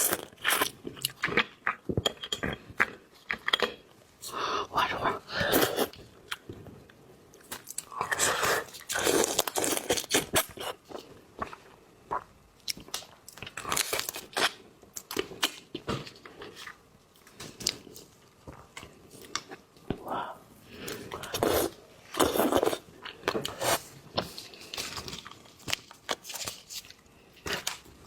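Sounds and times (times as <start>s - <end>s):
person chewing crunchy food: 0.0s - 3.8s, 7.4s - 20.0s, 20.8s - 28.0s.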